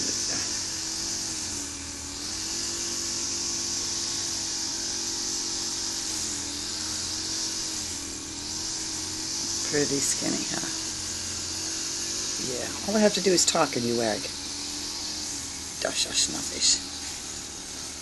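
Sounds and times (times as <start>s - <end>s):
motor humming with high hiss: 0.0s - 18.0s.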